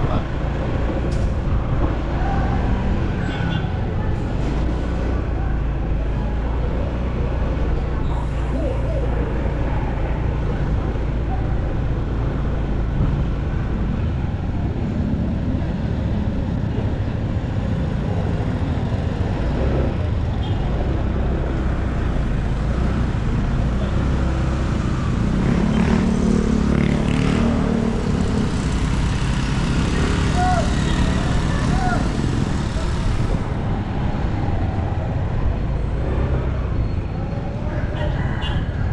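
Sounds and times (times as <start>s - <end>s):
road traffic: 0.0s - 38.9s.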